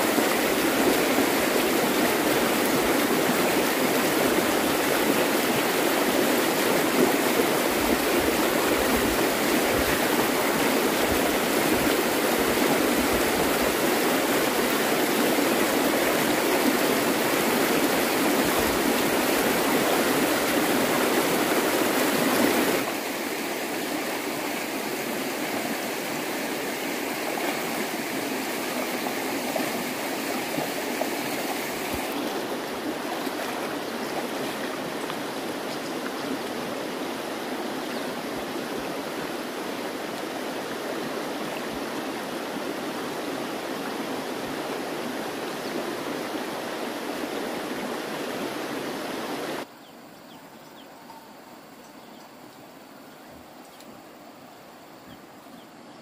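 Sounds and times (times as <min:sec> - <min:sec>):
running water rushing: 0:00.0 - 0:49.8.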